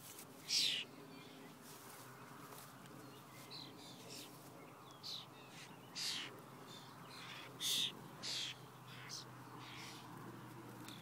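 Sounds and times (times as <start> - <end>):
birds giving harsh calls: 0.4 - 1.6, 2.2 - 10.1.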